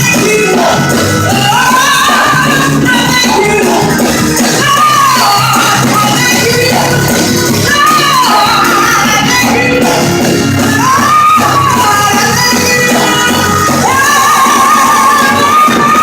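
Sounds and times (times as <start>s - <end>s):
band playing loud music: 0.0s - 16.0s
person singing: 0.0s - 16.0s.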